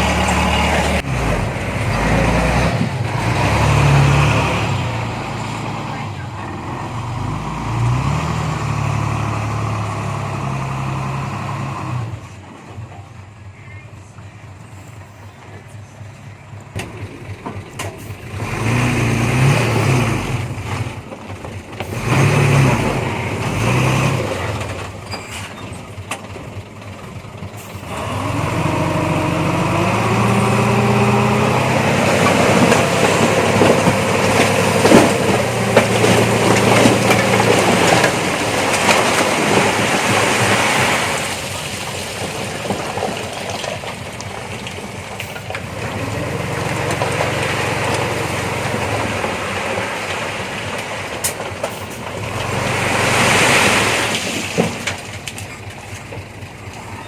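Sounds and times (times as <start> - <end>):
heavy diesel engine revving: 0.0 - 12.2, 16.7 - 21.0, 21.8 - 25.0, 26.4 - 41.4, 43.9 - 57.0.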